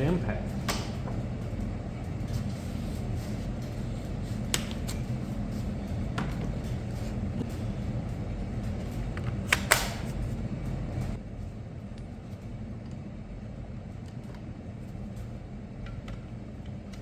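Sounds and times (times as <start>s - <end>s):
low shop hum: 0.0s - 17.0s.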